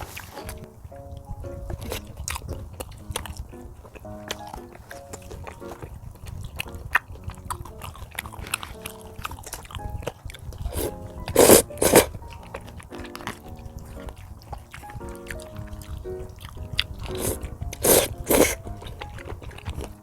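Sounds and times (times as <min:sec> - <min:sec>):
chewing and crunching food: 0:00.0 - 0:20.0
light background music: 0:00.0 - 0:20.0.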